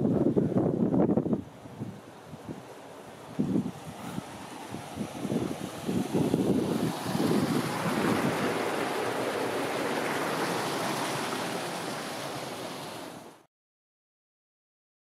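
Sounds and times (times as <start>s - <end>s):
wind rushing over microphone: 0.0s - 13.3s.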